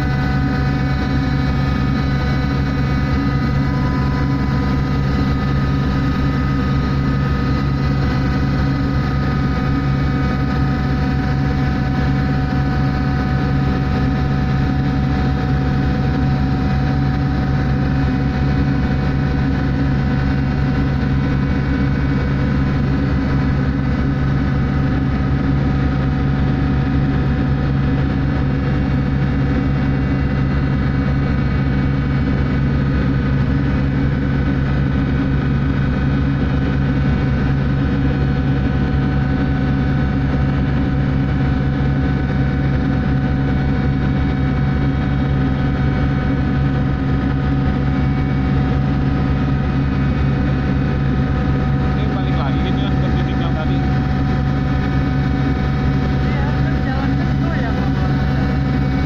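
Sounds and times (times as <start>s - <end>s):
ship machinery drone: 0.0s - 59.0s.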